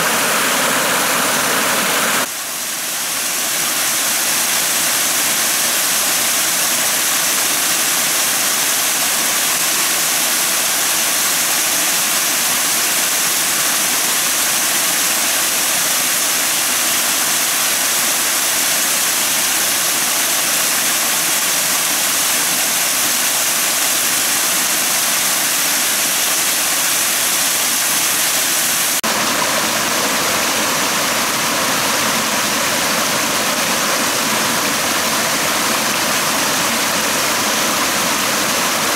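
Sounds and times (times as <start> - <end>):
waterfall rushing over rock: 0.0 - 38.9.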